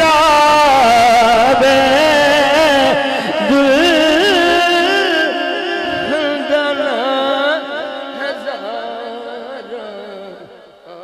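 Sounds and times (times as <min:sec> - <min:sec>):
man singing through microphone: 0:00.0 - 0:11.0.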